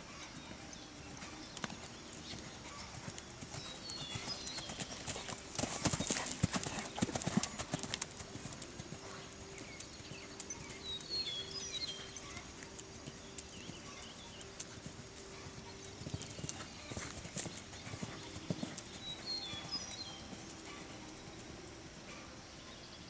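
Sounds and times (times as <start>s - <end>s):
horse hoofbeats on sand: 0.2s - 21.1s.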